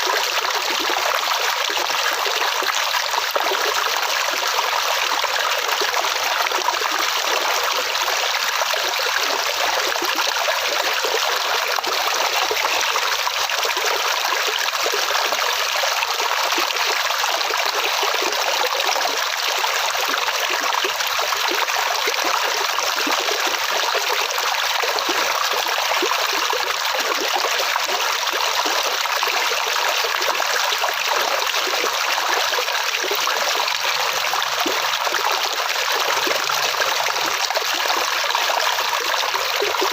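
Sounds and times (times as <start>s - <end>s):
stream trickling and burbling: 0.0s - 39.9s.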